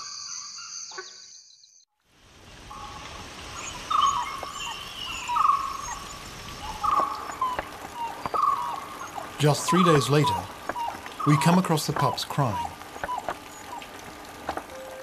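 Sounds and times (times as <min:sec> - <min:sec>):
crickets trilling: 0:02.7 - 0:14.9.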